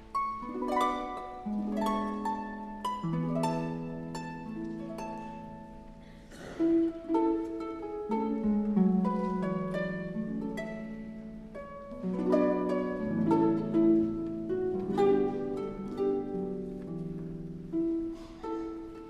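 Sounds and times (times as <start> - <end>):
harp melody: 0.0 - 19.0.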